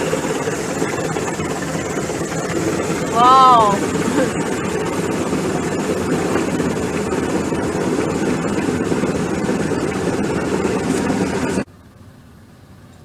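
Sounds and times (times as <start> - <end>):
helicopter rotor and turbine roar: 0.0 - 12.0.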